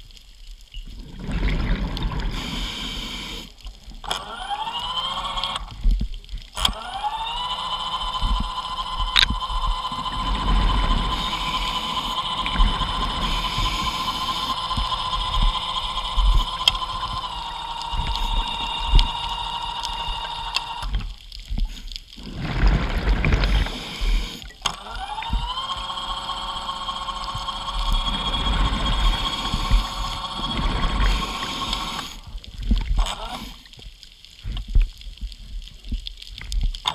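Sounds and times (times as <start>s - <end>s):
bubbling water: 0.8s - 2.9s, 3.7s - 33.4s
electric motor whining underwater: 1.1s - 33.8s.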